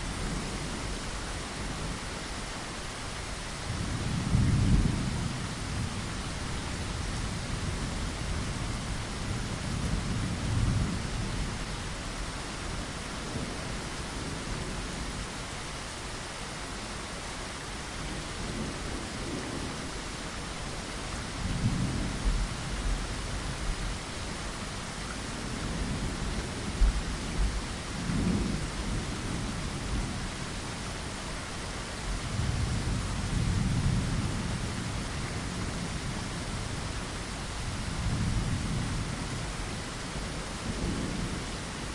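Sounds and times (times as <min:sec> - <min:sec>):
rain on window glass: 0:00.0 - 0:41.9.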